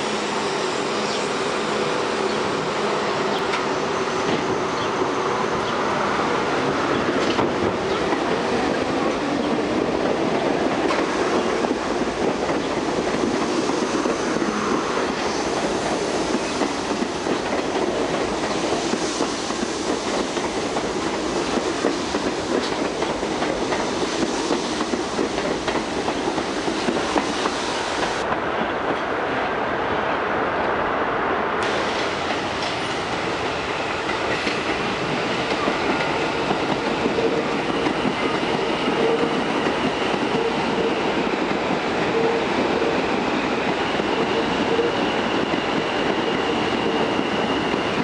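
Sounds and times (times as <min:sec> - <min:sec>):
subway train wheels rattling: 0:00.0 - 0:48.0.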